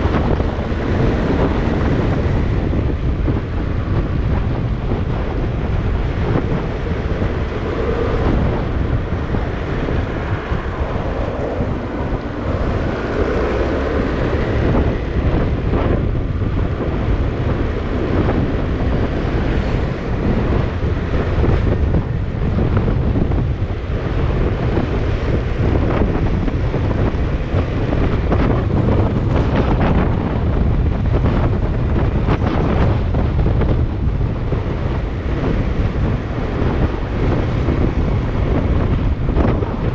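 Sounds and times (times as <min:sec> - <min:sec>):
road and vehicle rumble: 0:00.0 - 0:39.9
wind buffeting microphone: 0:00.0 - 0:39.9.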